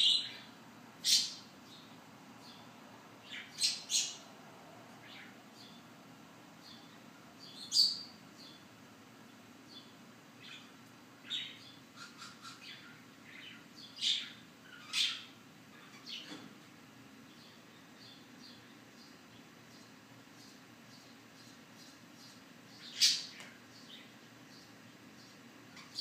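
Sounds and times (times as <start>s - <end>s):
small birds chirping: 0.0s - 4.3s, 4.9s - 26.0s.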